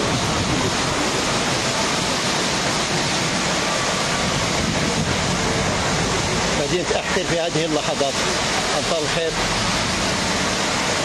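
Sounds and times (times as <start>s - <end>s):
heavy rain on flooded street: 0.0s - 11.0s.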